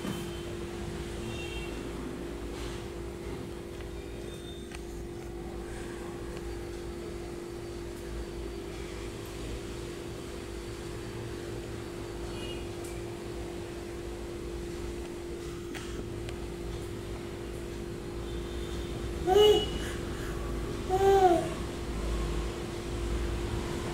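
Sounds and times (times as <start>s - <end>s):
machine hum: 0.0s - 23.9s.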